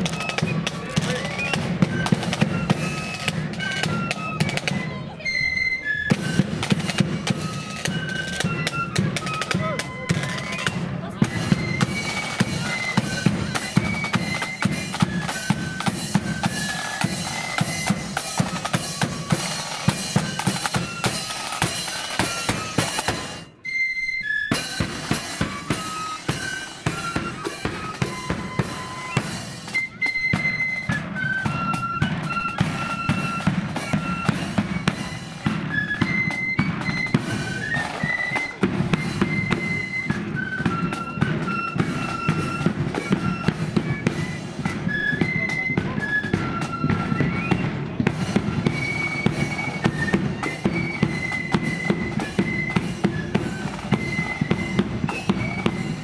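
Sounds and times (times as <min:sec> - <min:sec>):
flutes playing melody: 0:00.0 - 0:56.0
snare drums: 0:00.0 - 0:56.0.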